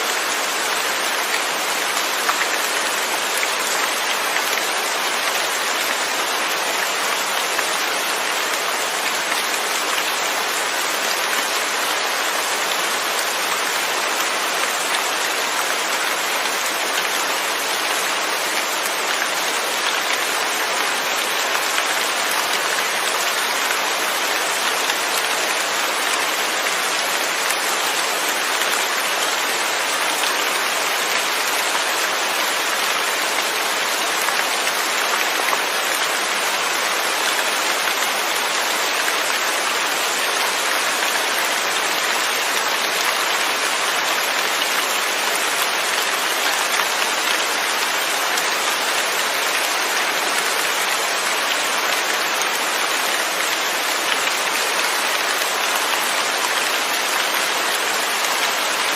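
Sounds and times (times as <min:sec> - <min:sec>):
rain pattering on a surface: 0:00.0 - 0:58.9.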